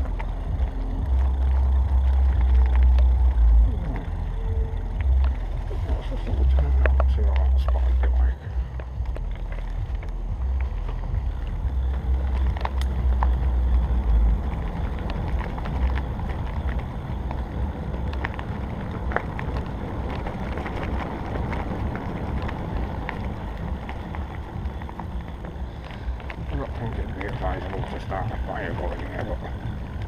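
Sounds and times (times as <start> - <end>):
light clicks and crackles: 0.0 - 30.0
steady rustle: 0.0 - 30.0
wind buffeting microphone: 0.0 - 30.0.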